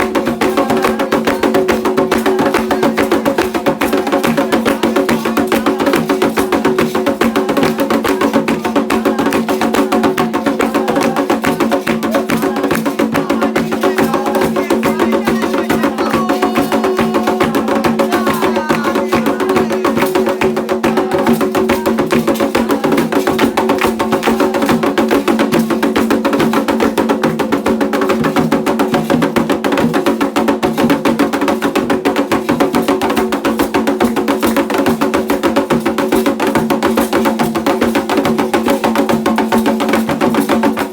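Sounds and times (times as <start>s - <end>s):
fast hand drumming: 0.0s - 40.9s.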